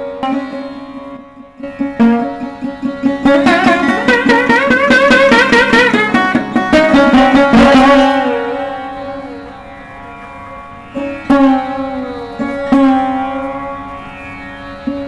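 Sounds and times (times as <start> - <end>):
sitar music: 0.0 - 15.0
steady drone: 0.0 - 15.0.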